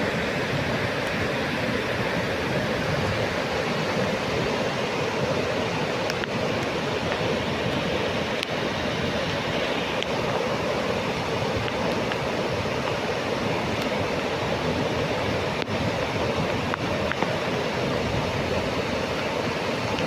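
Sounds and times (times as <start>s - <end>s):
fast-flowing river rushing: 0.0s - 20.0s.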